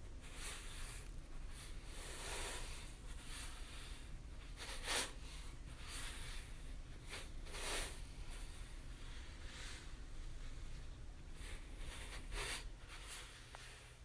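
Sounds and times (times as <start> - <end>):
gritty sugar swishing: 0.2 - 14.0.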